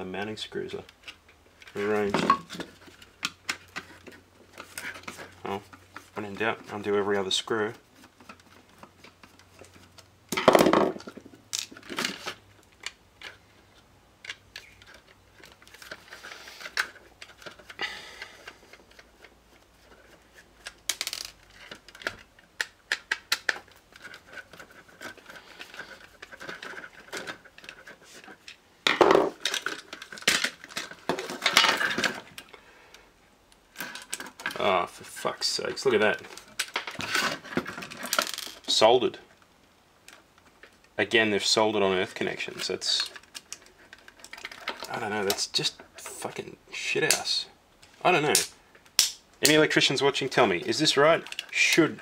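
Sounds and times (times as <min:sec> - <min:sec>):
plastic parts clicking and scraping: 0:00.8 - 0:52.0.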